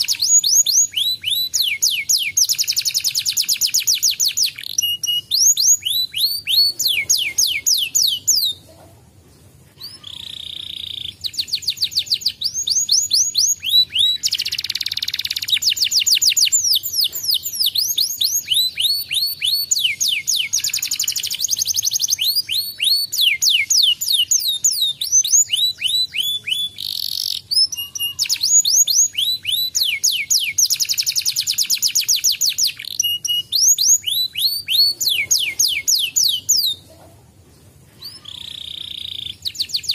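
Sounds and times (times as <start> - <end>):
canary singing trills: 0.0 - 8.9, 9.7 - 39.9.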